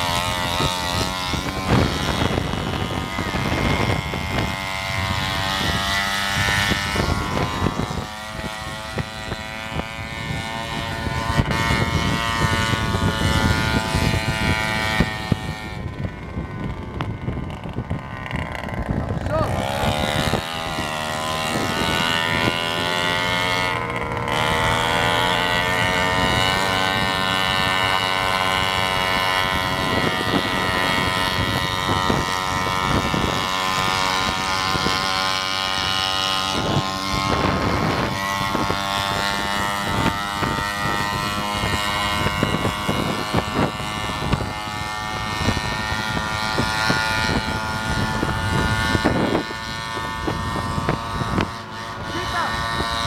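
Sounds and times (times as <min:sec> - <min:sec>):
scooter engines revving high: 0:00.0 - 0:53.0
wind buffeting microphone: 0:00.0 - 0:53.0.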